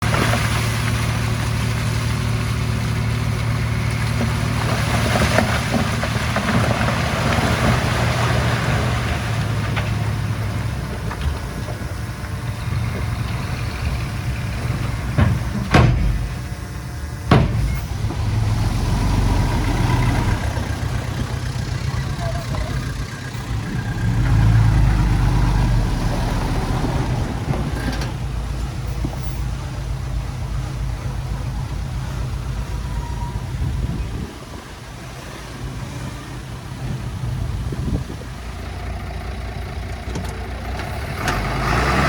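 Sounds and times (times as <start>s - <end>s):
diesel machinery engine running: 0.0s - 42.0s.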